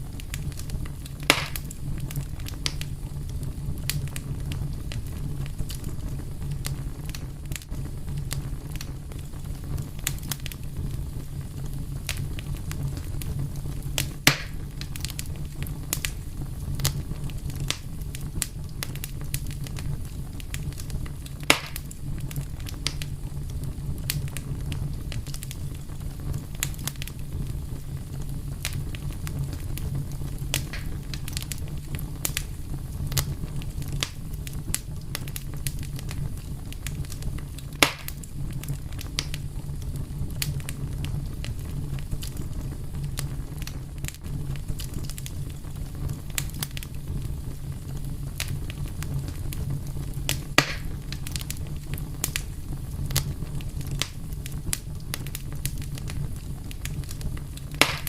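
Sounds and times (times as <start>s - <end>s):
low rumble of flames: 0.0s - 58.0s
wood fire pops and snaps: 0.0s - 58.0s.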